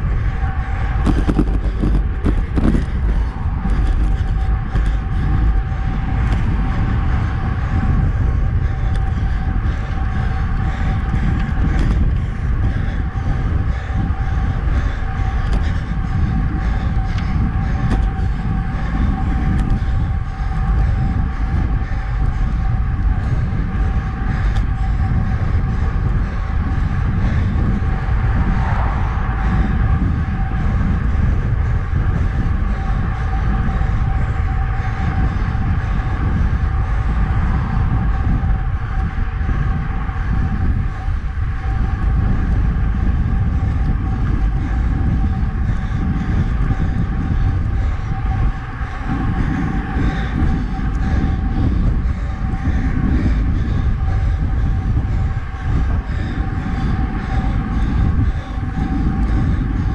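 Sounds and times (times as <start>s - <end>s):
bicycle tyre noise: 0.0s - 59.9s
thin steady hum: 0.0s - 59.9s
wind rushing over camera: 0.0s - 59.9s.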